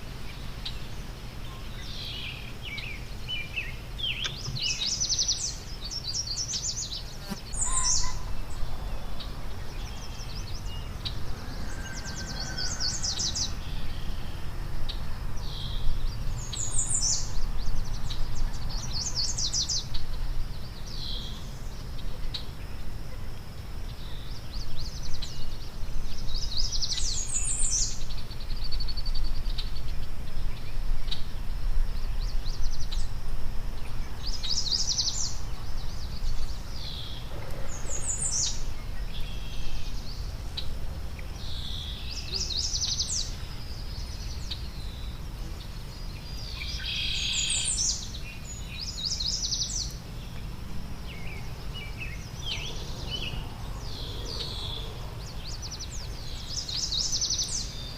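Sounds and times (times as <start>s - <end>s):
songbirds chirping trills: 0.0s - 57.9s.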